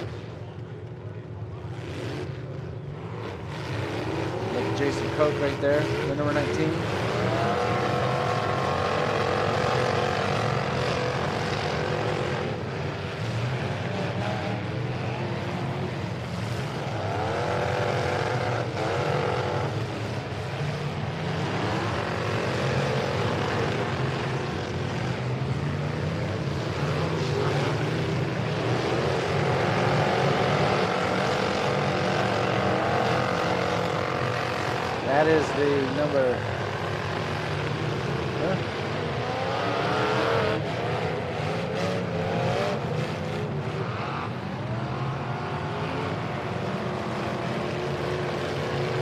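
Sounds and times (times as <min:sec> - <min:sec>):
truck engines revving: 0:00.0 - 0:49.0.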